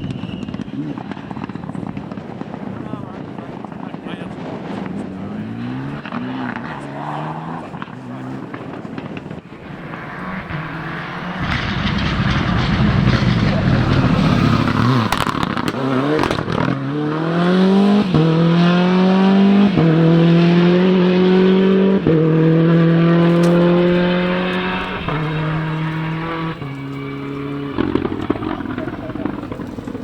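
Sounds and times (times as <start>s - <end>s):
rally car engine upshifting: 0.0s - 30.0s.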